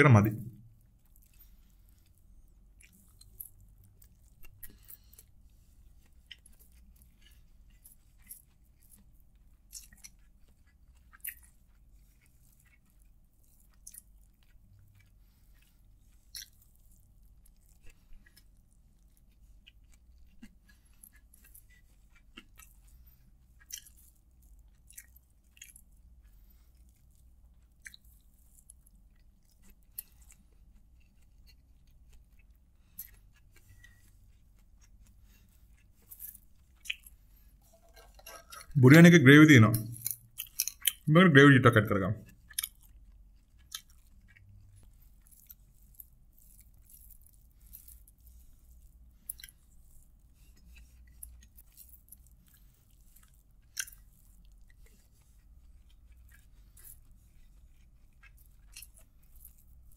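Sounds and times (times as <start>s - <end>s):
chewing with wet mouth clicks: 0.8s - 38.8s, 39.8s - 41.1s, 42.2s - 59.9s.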